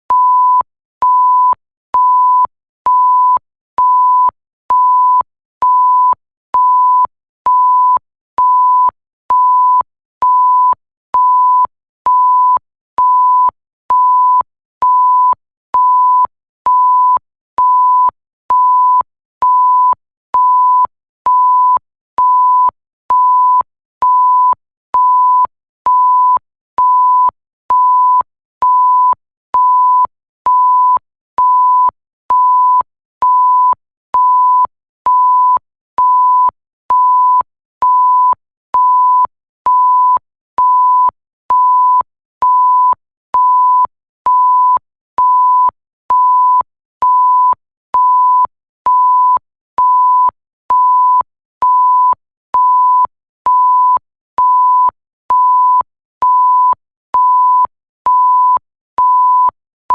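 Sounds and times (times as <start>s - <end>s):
censor bleep beeps: 0.1s - 59.6s.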